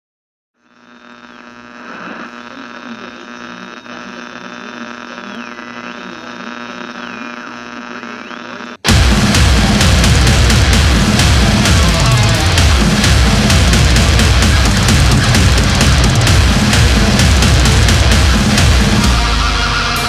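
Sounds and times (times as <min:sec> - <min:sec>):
electrical hum: 0:00.6 - 0:20.0.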